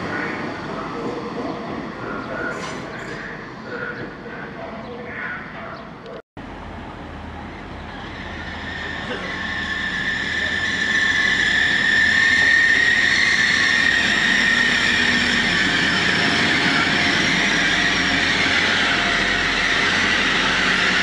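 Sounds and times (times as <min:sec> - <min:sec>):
train engines and wheels rumbling: 0:00.0 - 0:21.0.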